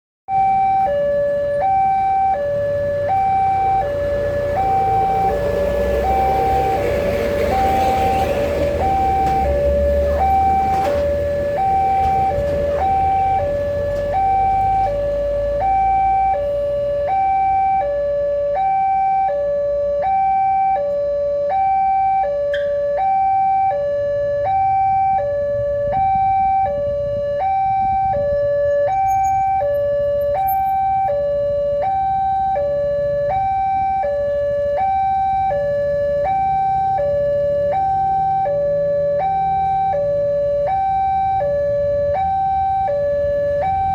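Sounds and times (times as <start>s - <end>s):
two-tone level crossing alarm: 0.3s - 43.9s.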